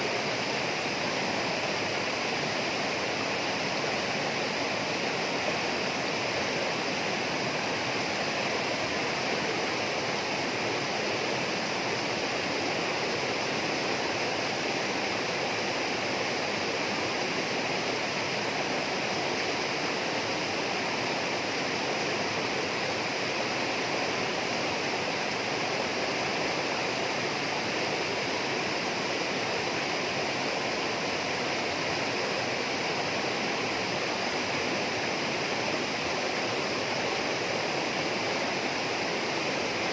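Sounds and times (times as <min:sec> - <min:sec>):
flowing water rushing: 0:00.0 - 0:39.9
high hiss: 0:00.0 - 0:39.9.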